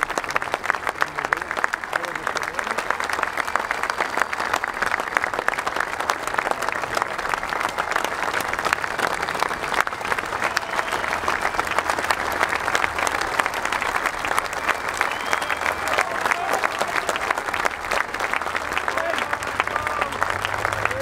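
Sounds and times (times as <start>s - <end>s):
stadium crowd applauding: 0.0s - 21.0s.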